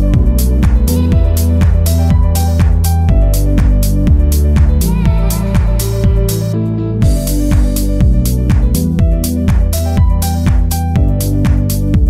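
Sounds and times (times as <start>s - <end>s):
kick drum hits: 0.0s - 6.3s, 7.0s - 12.0s
held bass line: 0.0s - 12.0s
hi-hat strokes: 0.0s - 12.0s.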